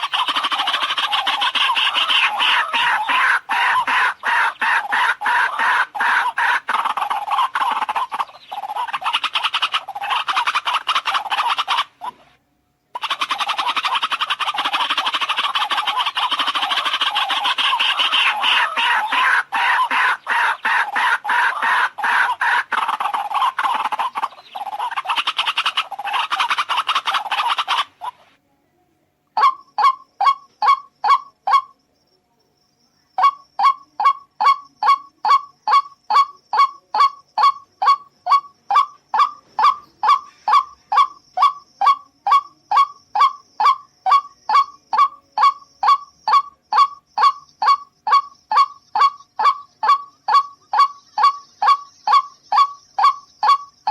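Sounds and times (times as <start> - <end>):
waterhen calling: 0.0 - 12.4, 13.0 - 28.4, 29.4 - 31.7, 33.2 - 53.9.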